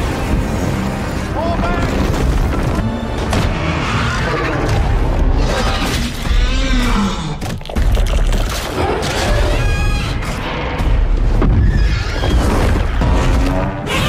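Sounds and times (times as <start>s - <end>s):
film music: 0.0s - 14.0s.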